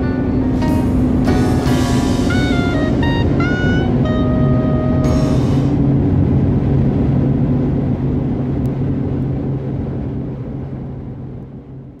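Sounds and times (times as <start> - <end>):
car cabin drone at highway speed: 0.0 - 12.0.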